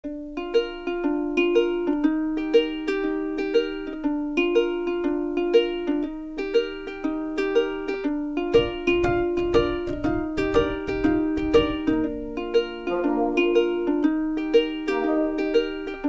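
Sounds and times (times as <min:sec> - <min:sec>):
plucked-string tune: 0:00.0 - 0:16.0.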